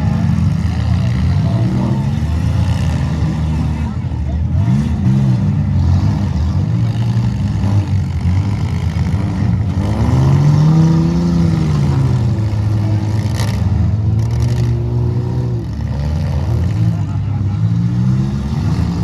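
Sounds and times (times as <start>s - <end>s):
car engines running: 0.0s - 19.0s
engine revving: 0.0s - 19.0s.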